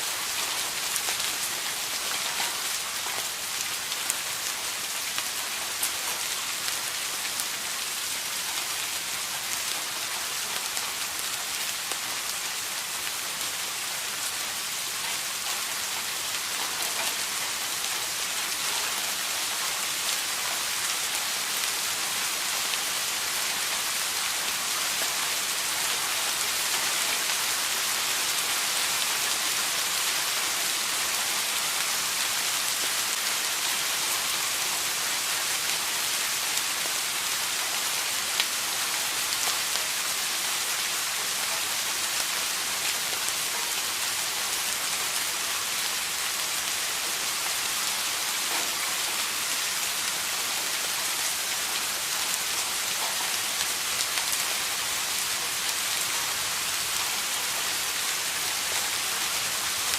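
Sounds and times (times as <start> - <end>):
rain on hard surface: 0.0 - 59.9.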